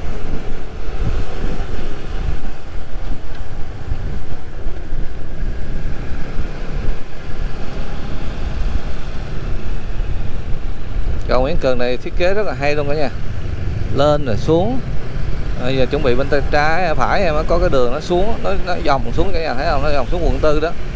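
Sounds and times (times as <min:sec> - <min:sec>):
road and traffic noise: 0:00.0 - 0:20.9
wind rumbling on microphone: 0:00.0 - 0:20.9.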